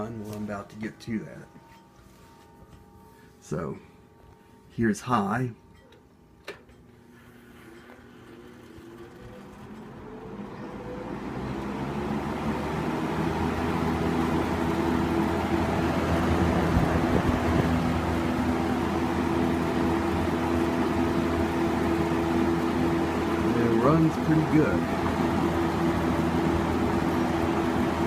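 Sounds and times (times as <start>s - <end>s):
box fan running: 0.0s - 28.0s.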